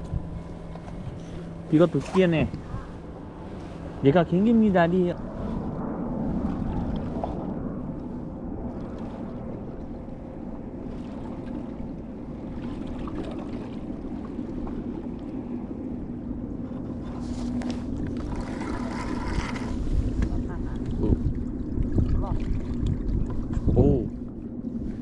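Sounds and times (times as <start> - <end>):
faint even hum: 0.0 - 25.0
wind buffeting microphone: 0.0 - 25.0.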